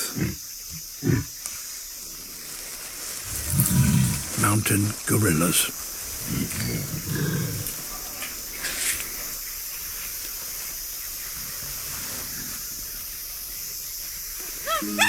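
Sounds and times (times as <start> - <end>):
forest ambience hiss: 0.0 - 15.0.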